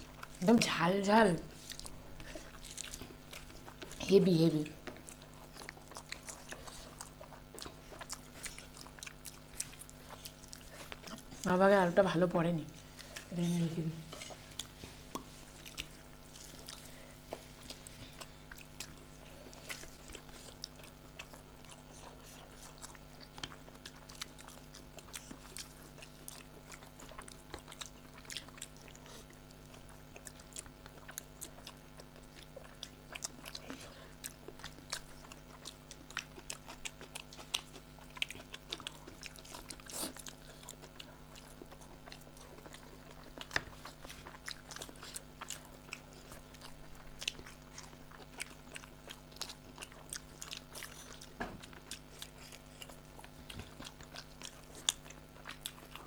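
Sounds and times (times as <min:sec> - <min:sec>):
chewing and lip smacks: 0:01.5 - 0:11.6, 0:12.7 - 0:56.0.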